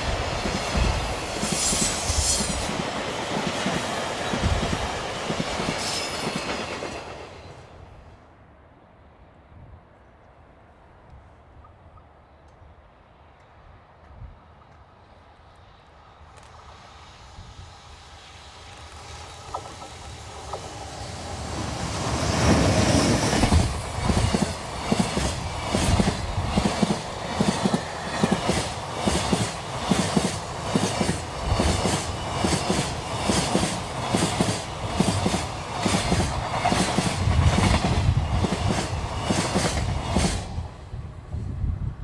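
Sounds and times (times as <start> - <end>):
electric locomotive passing: 0.0 - 42.0.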